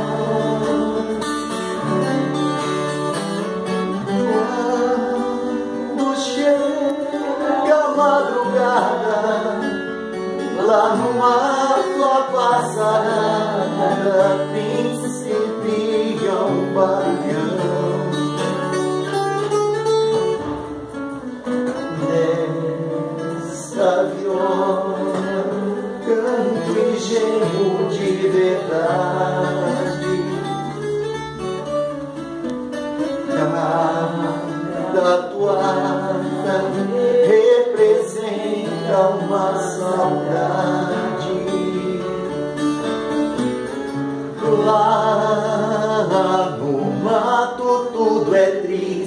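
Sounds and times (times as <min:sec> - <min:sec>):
person singing: 0:00.0 - 0:02.4, 0:03.9 - 0:18.8, 0:21.7 - 0:30.8, 0:33.0 - 0:42.6, 0:44.3 - 0:49.0
acoustic guitar: 0:00.0 - 0:49.0.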